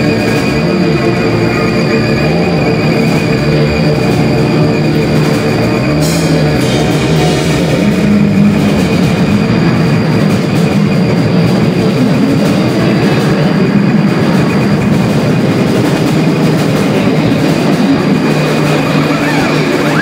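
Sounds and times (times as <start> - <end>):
drum kit: 0.0 - 20.0
low notes sliding in pitch: 0.0 - 20.0.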